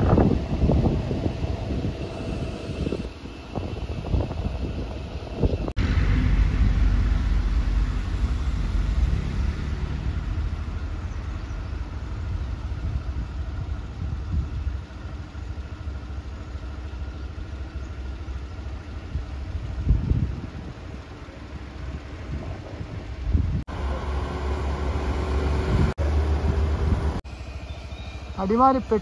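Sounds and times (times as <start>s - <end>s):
vehicle engine and road rumble: 0.0s - 29.0s.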